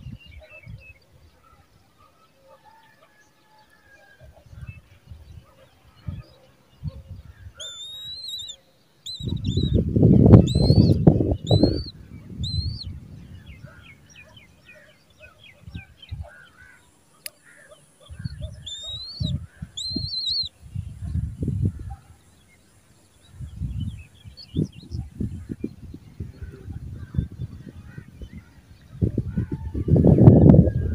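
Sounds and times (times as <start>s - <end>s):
eagle chicks calling: 4.2s - 30.8s.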